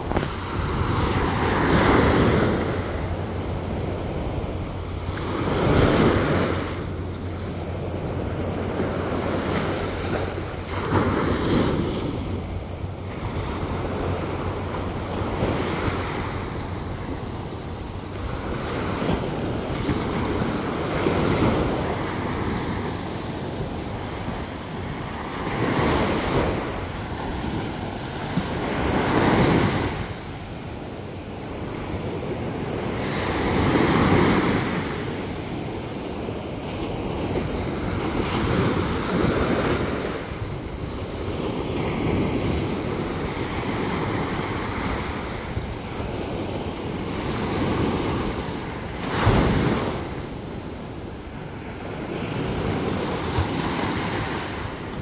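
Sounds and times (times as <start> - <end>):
sea surf breaking on shore: 0.0 - 55.0
wind rumbling on microphone: 0.0 - 55.0.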